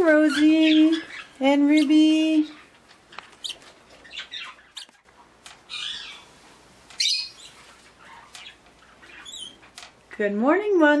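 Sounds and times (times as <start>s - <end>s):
birds chirping and squawking: 0.0s - 10.0s.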